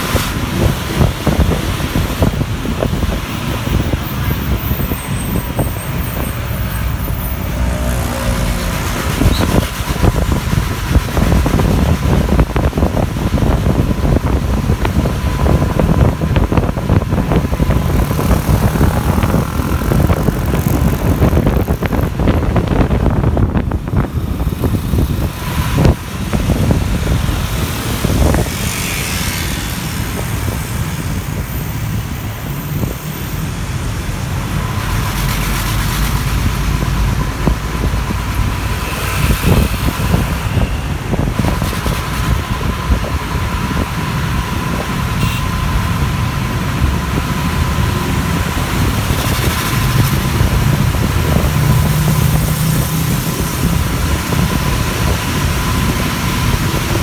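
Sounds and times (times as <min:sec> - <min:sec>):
bus engine running: 0:00.0 - 0:57.0
road and wind noise: 0:00.0 - 0:57.0.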